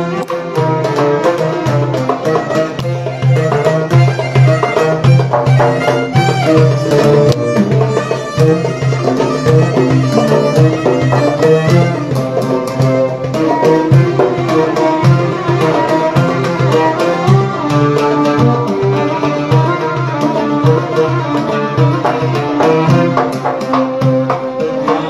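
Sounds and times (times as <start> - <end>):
frame drum beating: 0.0 - 25.0
goblet drum beating: 0.0 - 25.0
plucked oud melody: 0.0 - 25.0.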